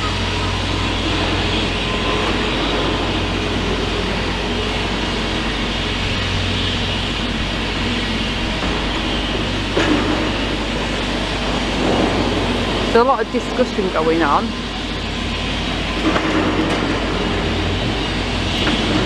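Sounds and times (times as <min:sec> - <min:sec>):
heavy diesel machinery rumbling: 0:00.0 - 0:19.0
low hum: 0:00.0 - 0:19.0.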